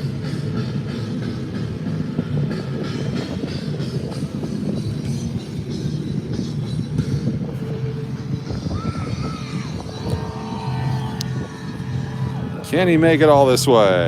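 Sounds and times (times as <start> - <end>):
city street noise: 0.0 - 14.0
outdoor concert music: 0.0 - 14.0.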